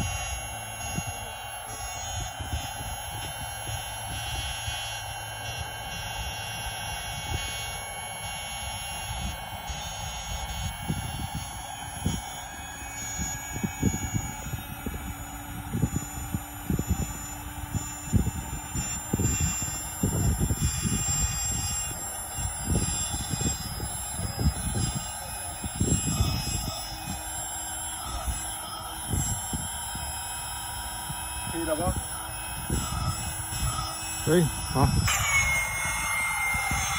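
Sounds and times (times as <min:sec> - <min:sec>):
electric air pump buzzing: 0:00.0 - 0:36.9.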